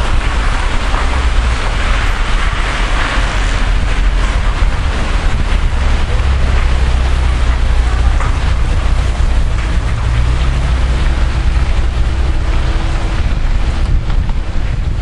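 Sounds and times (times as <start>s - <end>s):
distant people: 0.0s - 15.0s
distant traffic: 0.0s - 15.0s
wind buffeting microphone: 0.0s - 15.0s.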